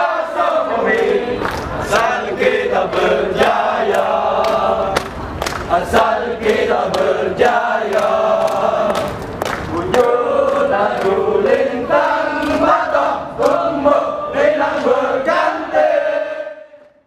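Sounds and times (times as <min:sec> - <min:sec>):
crowd chanting in unison: 0:00.0 - 0:17.0.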